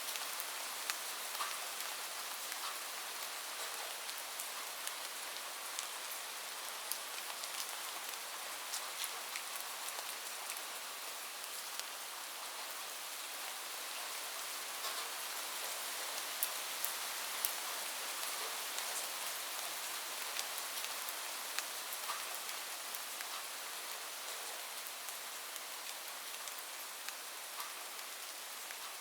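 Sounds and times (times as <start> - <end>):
heavy rain on a roof: 0.0 - 29.0.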